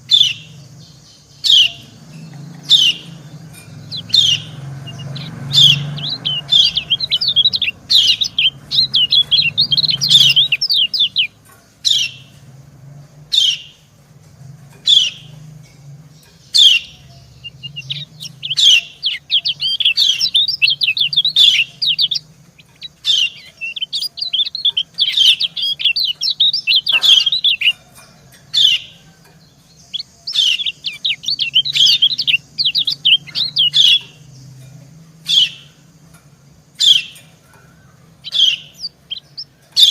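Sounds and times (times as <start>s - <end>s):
steady low hum: 0.0s - 39.8s
bird rapid twittering: 0.0s - 39.9s.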